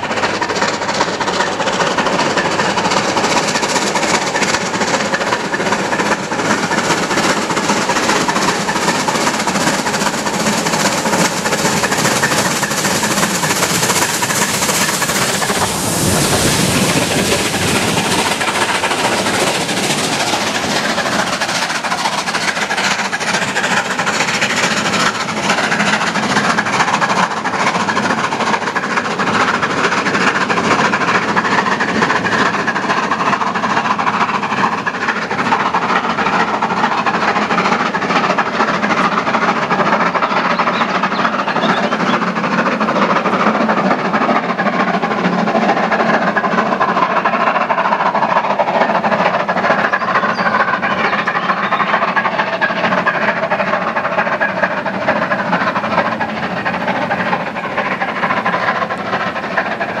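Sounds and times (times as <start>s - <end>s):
train wheels clattering on rails: 0.0s - 60.0s.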